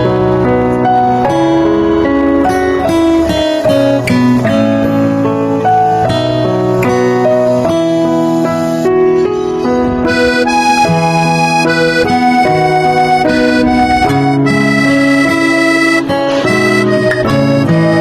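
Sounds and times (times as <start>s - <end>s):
instrumental music with held notes: 0.0s - 18.0s.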